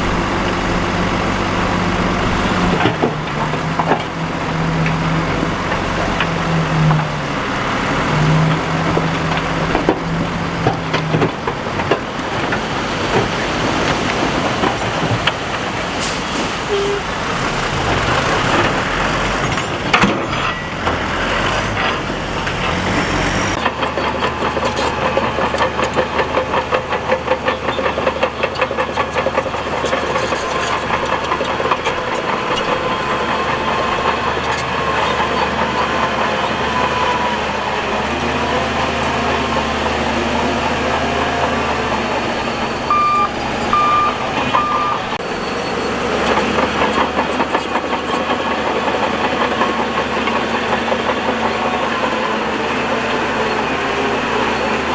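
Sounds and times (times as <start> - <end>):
diesel earthmoving machinery running: 0.0 - 54.9.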